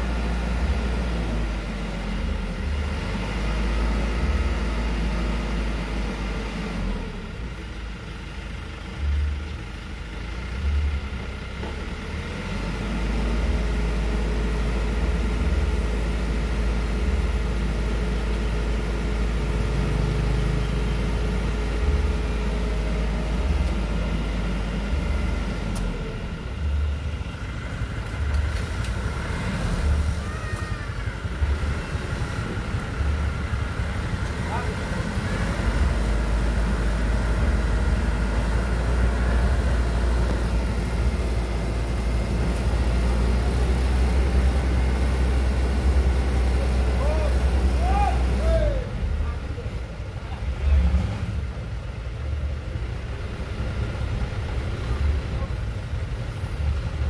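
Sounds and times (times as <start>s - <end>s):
old truck engine rumbling: 0.0s - 57.0s.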